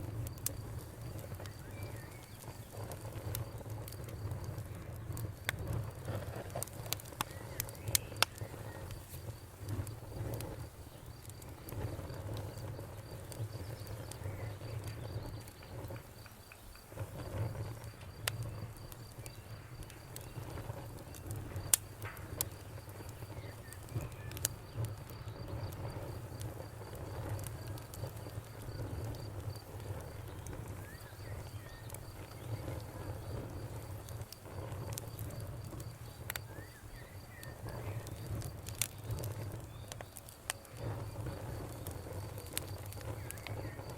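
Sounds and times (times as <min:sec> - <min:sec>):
fire crackling: 0:00.0 - 0:43.9
low rumble of flames: 0:00.0 - 0:43.9.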